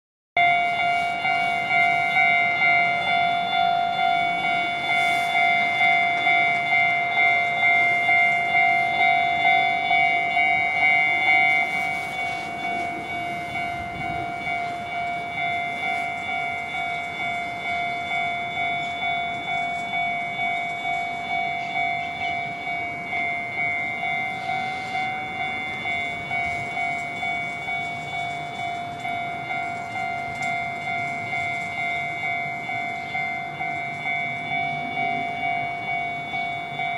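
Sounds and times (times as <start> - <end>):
level-crossing warning bell ringing: 0.4 - 36.9.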